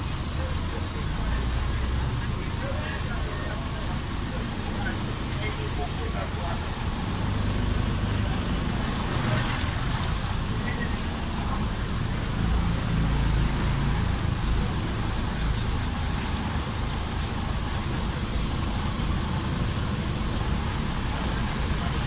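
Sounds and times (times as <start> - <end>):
motorbikes and vehicles passing: 0.0 - 22.0.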